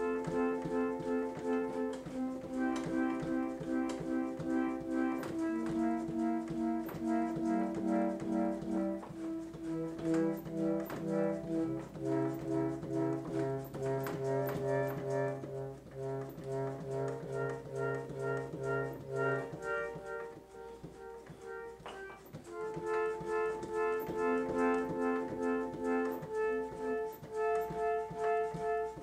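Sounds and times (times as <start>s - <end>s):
reed organ playing chords: 0.0s - 29.0s.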